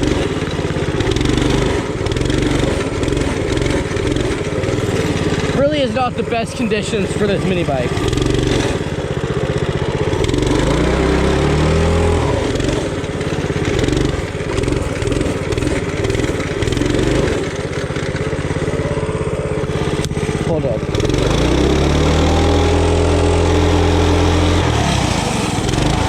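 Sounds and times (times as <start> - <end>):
mini bike engine revving: 0.0 - 26.0.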